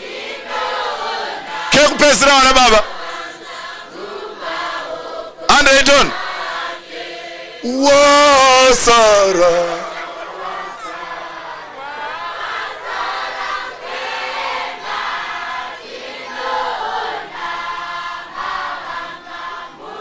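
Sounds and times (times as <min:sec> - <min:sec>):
congregation singing: 0:00.0 - 0:20.0.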